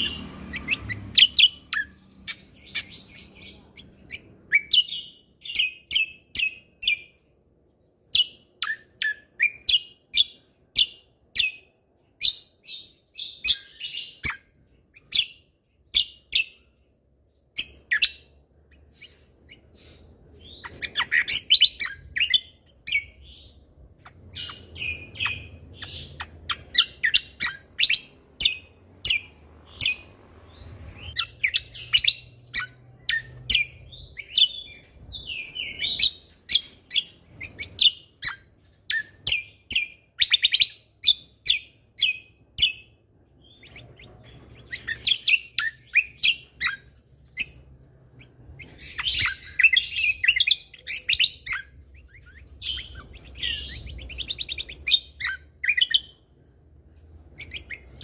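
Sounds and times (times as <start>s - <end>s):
bird chirping in rapid bursts: 0.0s - 56.3s, 57.2s - 58.0s.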